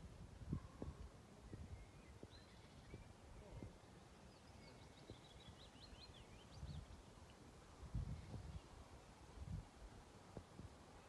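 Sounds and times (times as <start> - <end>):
songbird chirps: 0.0 - 11.0.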